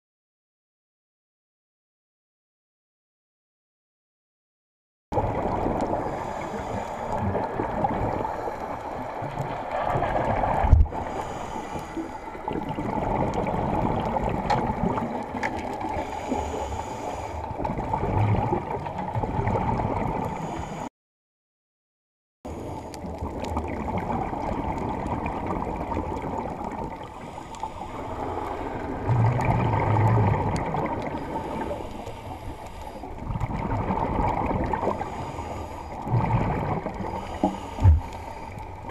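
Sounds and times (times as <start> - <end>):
regulator bubbles gurgling: 5.1 - 20.8, 22.5 - 38.9.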